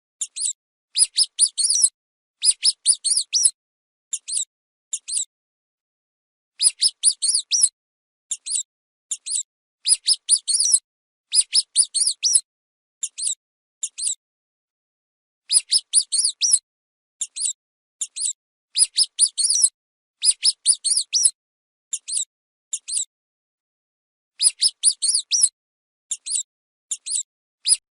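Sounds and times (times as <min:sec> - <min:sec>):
mouse squeaking: 0:00.2 - 0:05.3, 0:06.6 - 0:14.2, 0:15.5 - 0:16.6, 0:17.2 - 0:23.1, 0:24.4 - 0:27.9.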